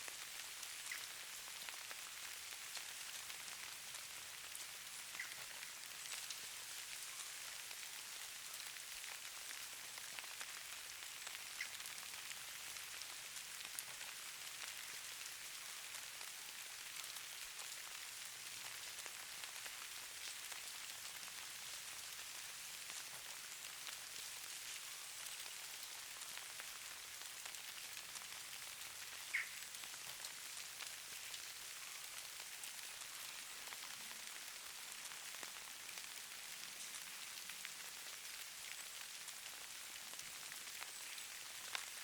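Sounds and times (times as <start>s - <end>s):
falling snow patter: 0.0s - 42.0s.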